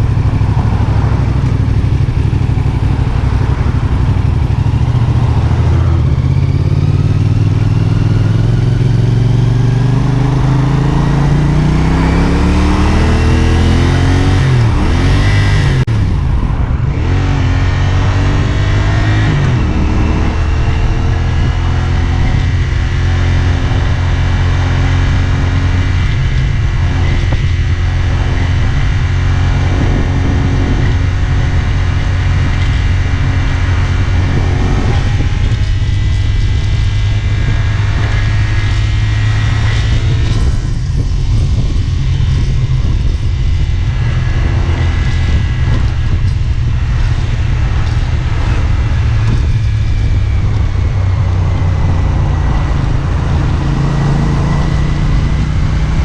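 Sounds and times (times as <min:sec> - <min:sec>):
motorcycle engine drone: 0:00.0 - 0:56.0
steady rush of noise: 0:00.0 - 0:56.0.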